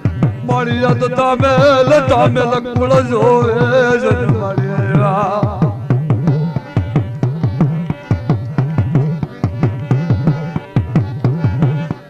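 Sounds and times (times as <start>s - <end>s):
folk drum fast rhythm: 0.0s - 12.0s.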